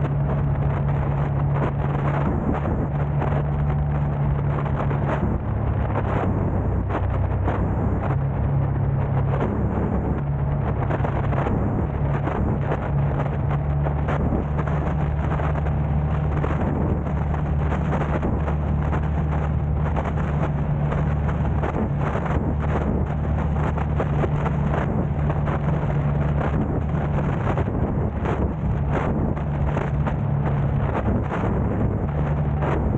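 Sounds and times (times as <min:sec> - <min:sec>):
car engine and tyres droning: 0:00.0 - 0:32.9
wind buffeting microphone: 0:00.0 - 0:32.9.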